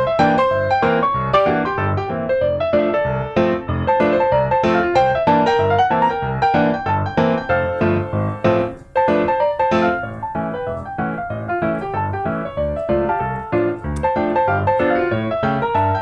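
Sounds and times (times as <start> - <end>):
piano tune with steady beat: 0.0 - 16.0.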